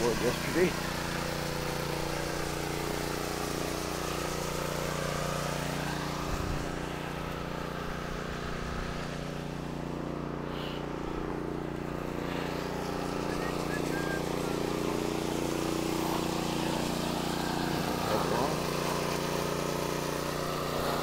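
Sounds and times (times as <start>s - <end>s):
small engine droning: 0.0s - 21.0s.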